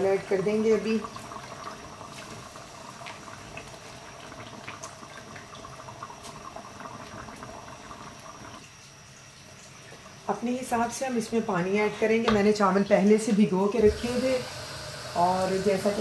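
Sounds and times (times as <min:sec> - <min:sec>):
pot boiling and bubbling: 0:00.0 - 0:16.0.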